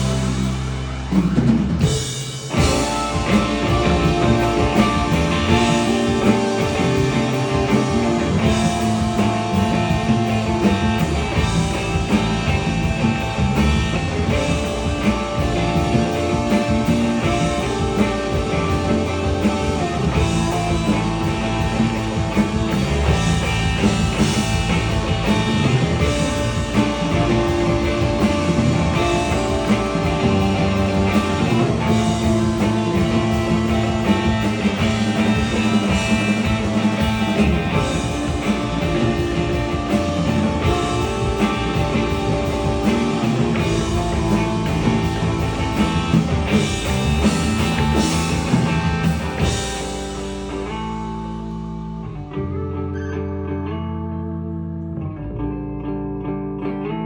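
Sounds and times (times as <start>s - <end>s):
drum kit: 0.0s - 52.0s
guitars: 0.0s - 57.0s.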